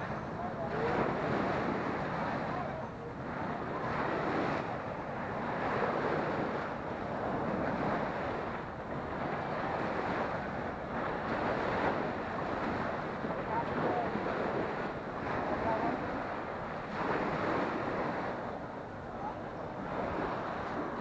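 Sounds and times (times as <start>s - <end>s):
waves washing up beach: 0.0s - 21.0s
wind buffeting microphone: 0.0s - 21.0s.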